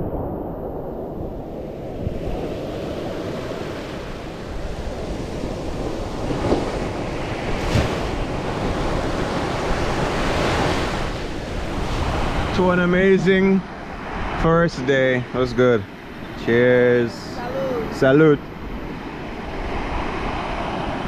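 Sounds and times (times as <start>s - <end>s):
wind buffeting microphone: 0.0s - 21.0s
waves washing up a beach: 1.2s - 21.0s.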